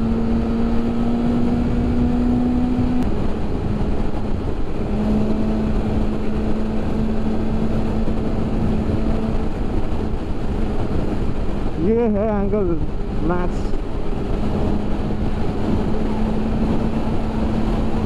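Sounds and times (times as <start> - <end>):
motorcycle engine cruising: 0.0 - 18.0
wind rushing: 0.0 - 18.0.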